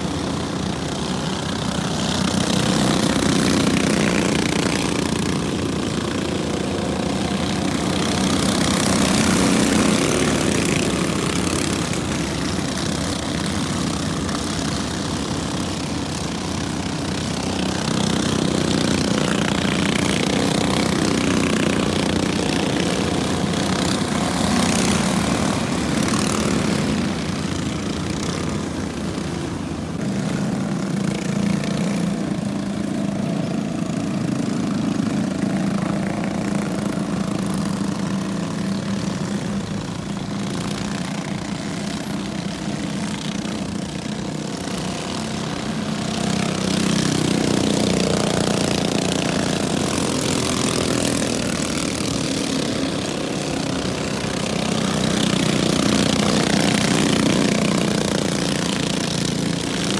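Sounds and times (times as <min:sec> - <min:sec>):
small engine buzzing: 0:00.0 - 0:59.9.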